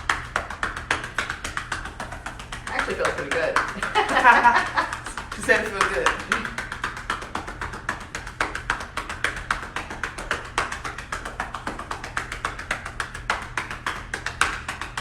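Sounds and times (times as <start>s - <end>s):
hands patting on a back: 0.0s - 15.0s.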